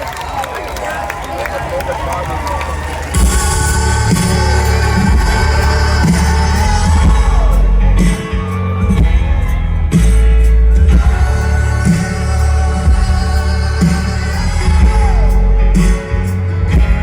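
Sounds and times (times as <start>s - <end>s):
live band playing pop song: 3.0s - 17.0s
heavy low bass: 3.1s - 17.0s.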